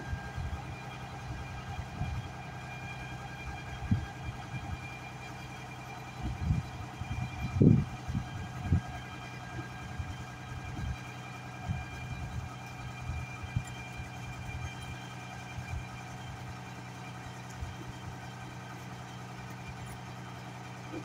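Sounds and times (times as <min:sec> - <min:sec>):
sewer jetter engine and pump hum: 0:00.0 - 0:21.0.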